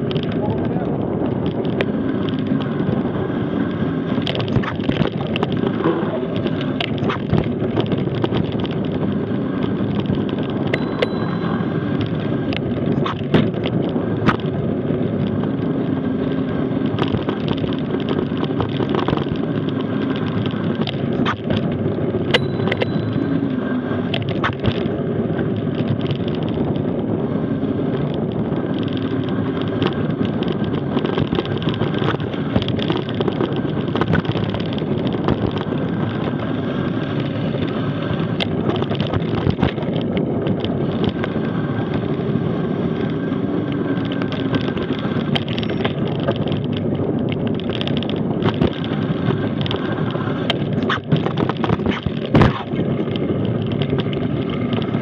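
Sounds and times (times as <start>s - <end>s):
bike rattling over bumps: 0.0s - 55.0s
bike tyres rumbling on gravel: 0.0s - 55.0s.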